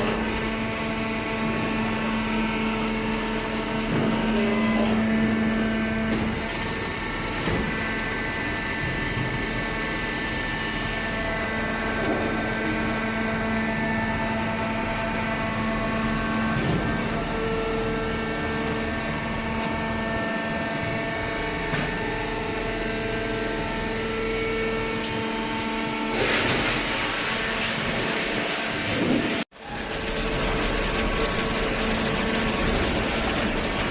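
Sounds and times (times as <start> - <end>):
hydraulic baler humming: 0.0 - 33.9
pump motor whining: 0.0 - 33.9.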